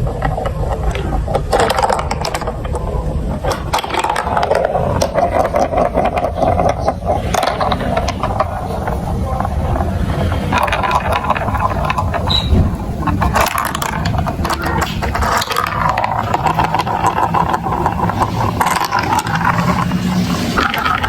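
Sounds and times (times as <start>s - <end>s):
marbles rolling through plastic run: 0.0s - 21.0s.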